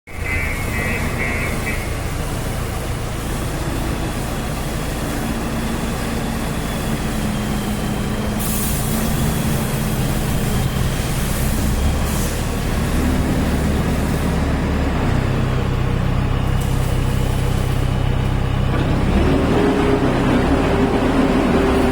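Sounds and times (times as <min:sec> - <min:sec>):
diesel engine running: 0:00.1 - 0:21.9.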